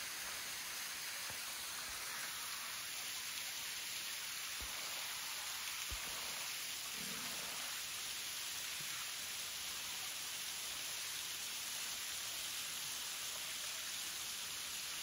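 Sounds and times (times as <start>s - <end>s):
waterfall splashing into pool: 0.0s - 15.0s.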